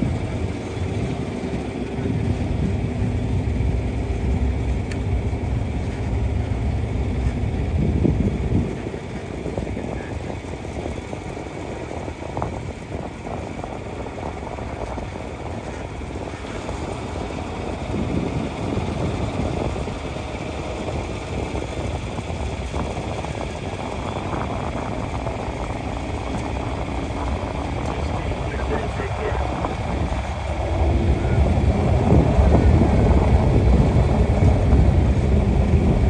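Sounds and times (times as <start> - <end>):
tractor engine rumbling: 0.0 - 36.0.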